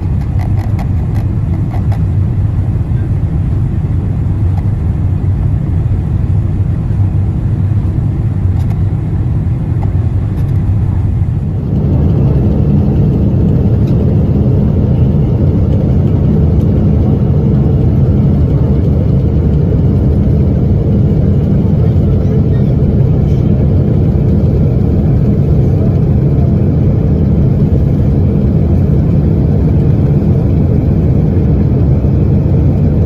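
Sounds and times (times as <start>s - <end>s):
airplane cabin roar: 0.0s - 33.0s.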